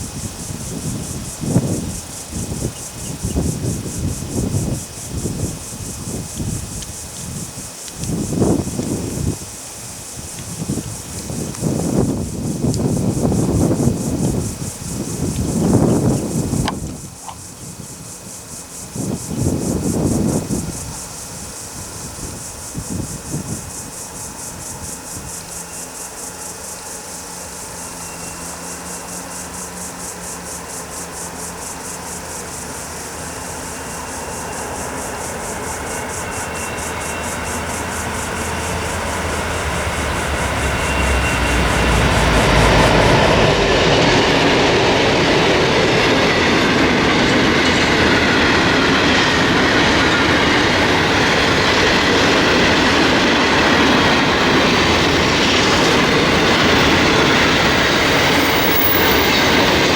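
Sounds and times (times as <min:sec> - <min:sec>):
diesel locomotives passing: 0:00.0 - 0:59.9.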